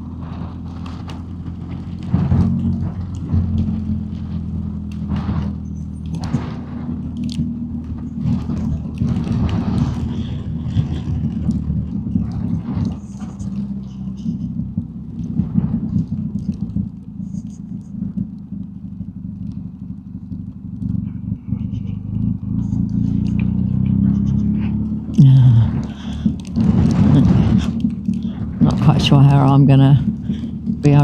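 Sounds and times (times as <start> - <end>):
rushing wind: 0.0 - 18.5, 20.9 - 31.0
motorcycle engine running: 0.0 - 31.0.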